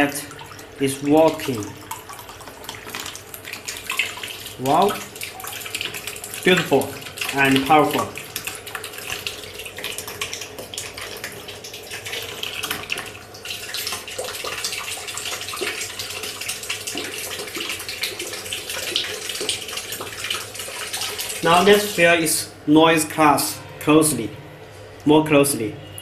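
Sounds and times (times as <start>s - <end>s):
water jet splashing into basin: 0.0s - 22.3s.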